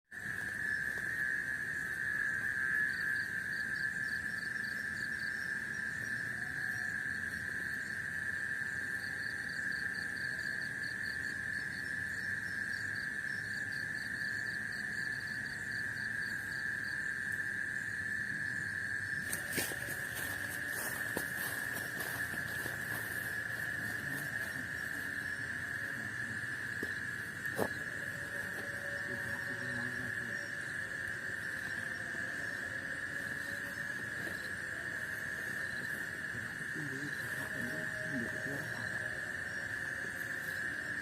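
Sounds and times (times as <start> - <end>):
insects droning: 0.1 - 41.0.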